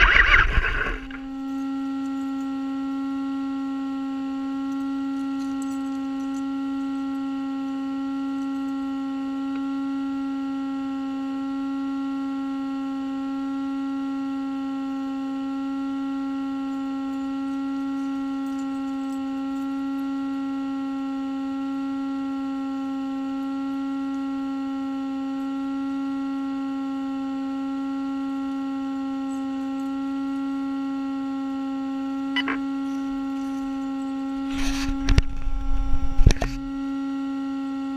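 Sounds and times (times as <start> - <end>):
steady hum: 0.0 - 37.9.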